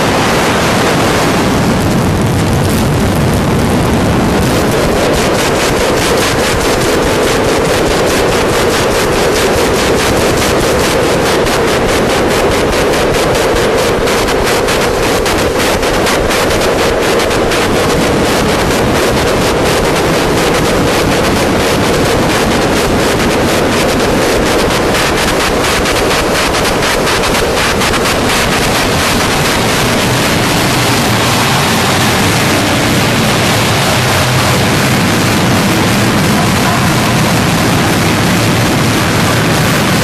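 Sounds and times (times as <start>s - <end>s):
distorted electronic noise: 0.0s - 40.0s
low rumble: 0.0s - 40.0s.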